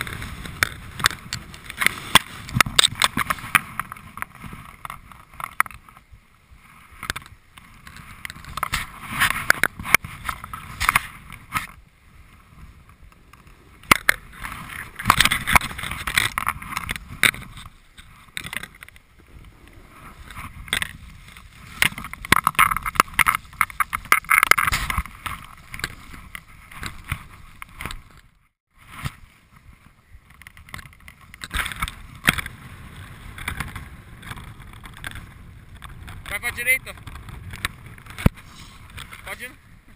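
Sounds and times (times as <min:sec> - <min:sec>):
snowboard scraping over snow: 0:00.0 - 0:28.1, 0:28.7 - 0:39.9.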